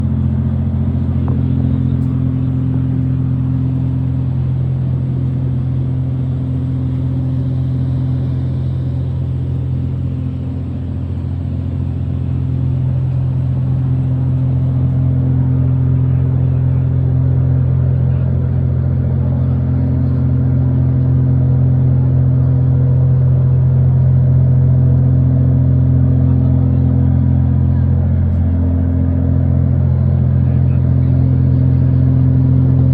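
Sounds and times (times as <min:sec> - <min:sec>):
ferry engine droning: 0:00.0 - 0:32.9.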